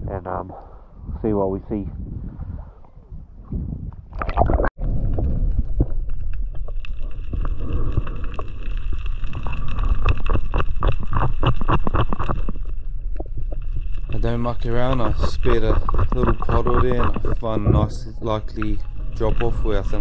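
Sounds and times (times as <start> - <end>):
muffled underwater rumble: 2.0 - 20.0.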